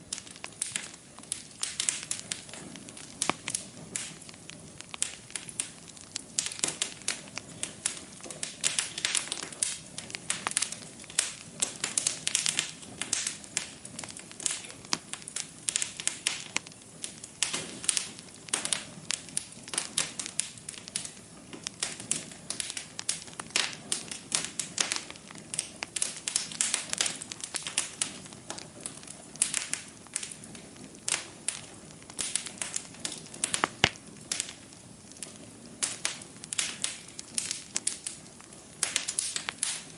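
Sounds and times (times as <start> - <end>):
flames hissing: 0.0 - 39.9
wood fire crackling: 0.0 - 39.9.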